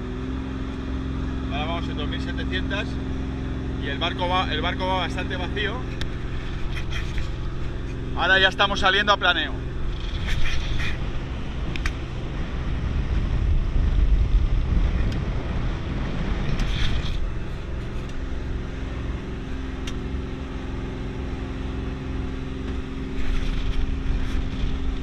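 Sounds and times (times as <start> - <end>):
speedboat engine drone: 0.0 - 25.0.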